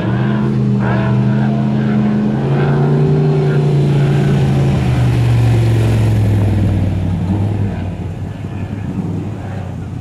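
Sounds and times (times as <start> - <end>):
truck engine passing by: 0.0 - 10.0.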